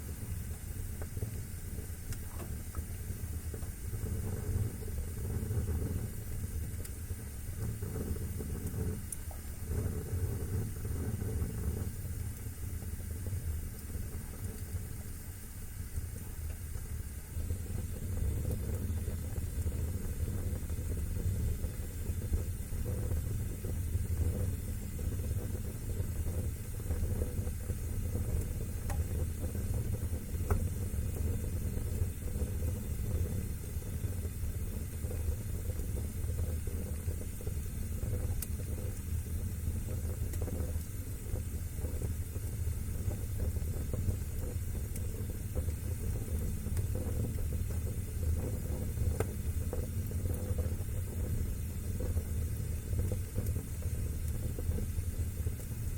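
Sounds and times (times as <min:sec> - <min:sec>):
fire crackles: 0:00.0 - 0:55.9
wood fire burning: 0:00.0 - 0:55.9.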